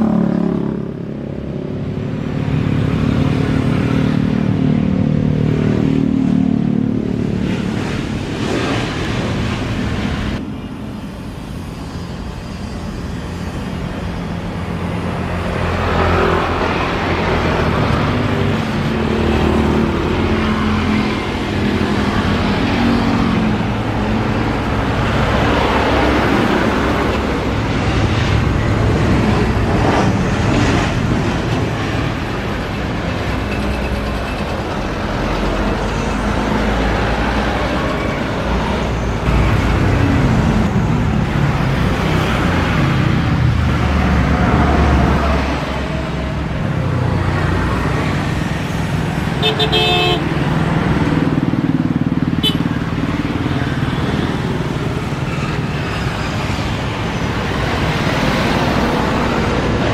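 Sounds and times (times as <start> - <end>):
jet engines on runway: 0.0 - 59.9.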